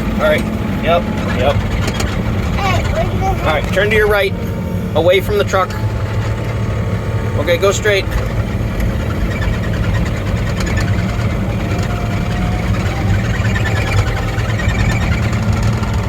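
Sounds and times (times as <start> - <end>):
diesel engine running: 0.0 - 16.0
excavator tracks moving: 0.0 - 16.0.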